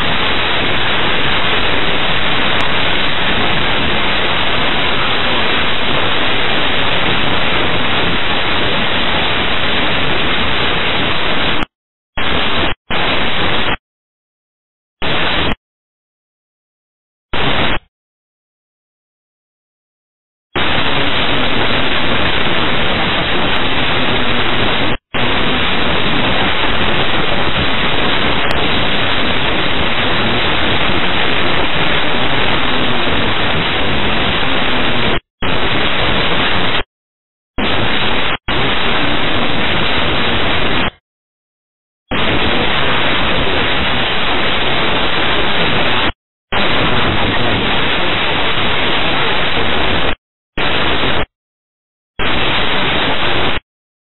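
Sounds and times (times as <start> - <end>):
radio static hiss: 0.0 - 13.8, 15.0 - 15.6, 17.3 - 17.9, 20.6 - 36.9, 37.6 - 41.0, 42.1 - 51.3, 52.2 - 53.6.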